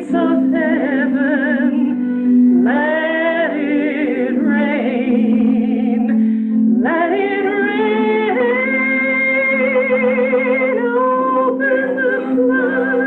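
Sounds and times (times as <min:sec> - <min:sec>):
woman singing worship song: 0:00.0 - 0:13.0.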